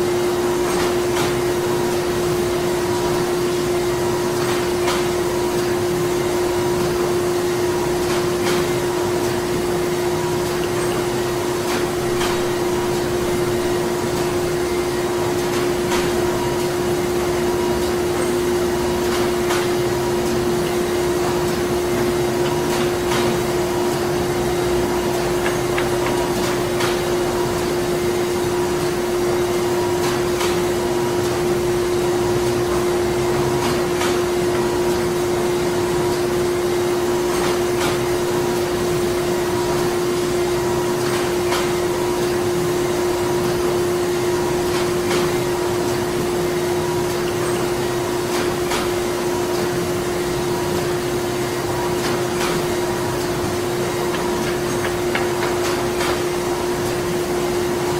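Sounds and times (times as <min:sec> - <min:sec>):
printing machinery humming: 0:00.0 - 0:57.9.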